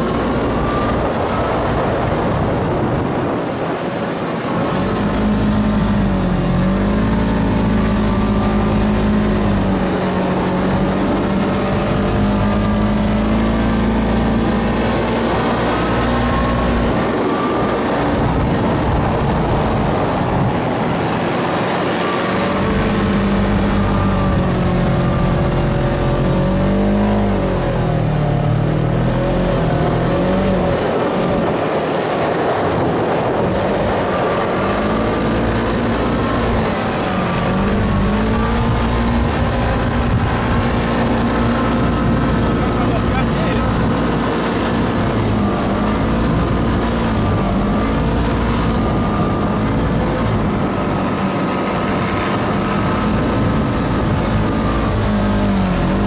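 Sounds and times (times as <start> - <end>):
dune buggy engine under load: 0.0 - 56.0.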